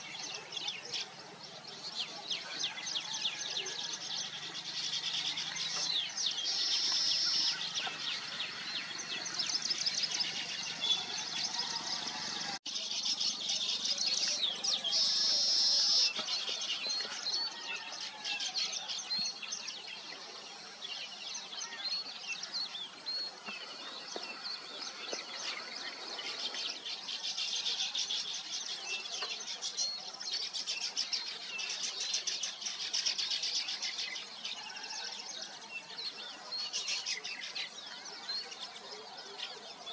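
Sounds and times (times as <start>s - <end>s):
weaver birds chirping: 0.0s - 39.9s.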